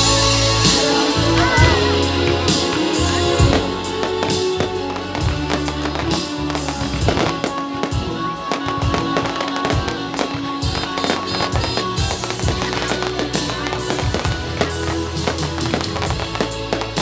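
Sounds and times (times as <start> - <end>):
fireworks bursting: 0.0 - 17.0
loud music with bass line: 0.0 - 17.0.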